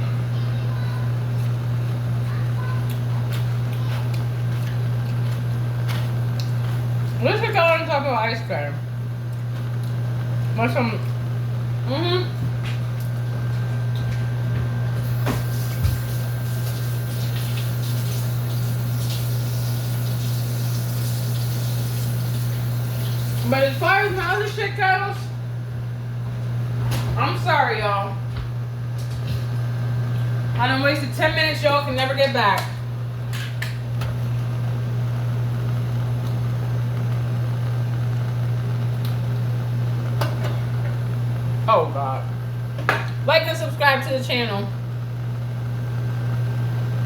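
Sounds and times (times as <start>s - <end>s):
low machine hum: 0.0s - 47.0s.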